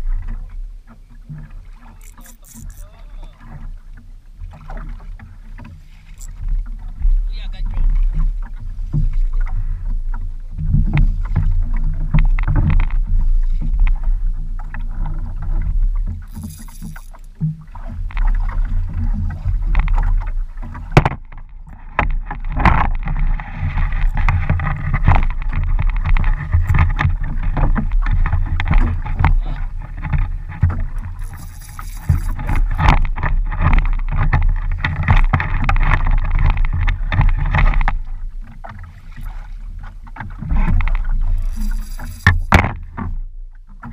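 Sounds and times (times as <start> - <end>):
boat knocks and creaks: 0.0 - 43.9
water slapping against boat hull: 0.0 - 43.9
wind rumble on microphone: 0.0 - 43.9.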